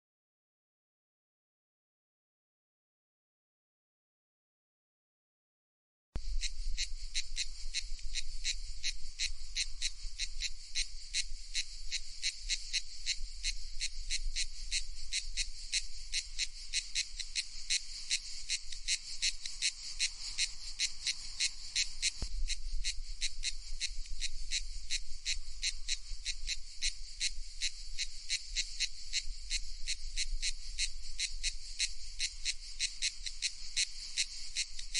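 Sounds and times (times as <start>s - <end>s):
cicada buzzing: 6.2s - 34.9s.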